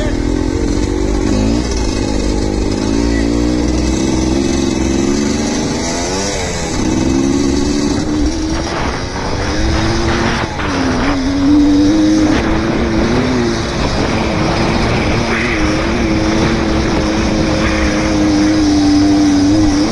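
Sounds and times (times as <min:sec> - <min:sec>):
dirt bike engine revving: 0:00.0 - 0:19.9.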